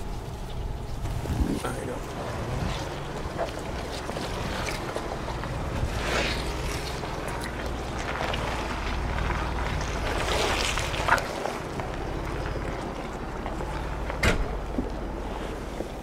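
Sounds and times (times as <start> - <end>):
tyres crunching over rocks: 0.0 - 16.0
vehicle engine running: 0.0 - 16.0.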